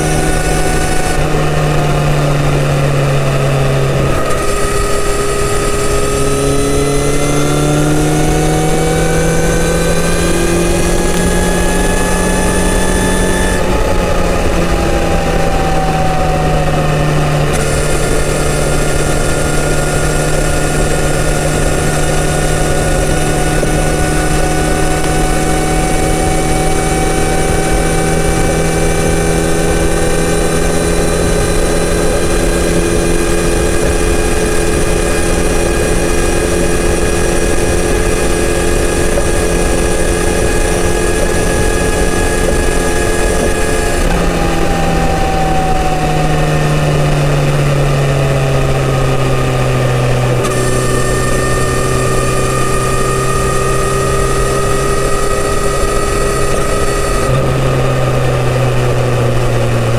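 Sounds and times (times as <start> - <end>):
motorcycle engine pulling: 0.0 - 59.9.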